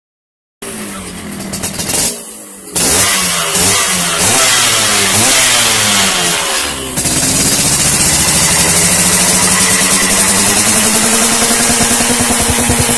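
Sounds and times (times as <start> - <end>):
two-stroke motorcycle engine revving: 0.6 - 12.9.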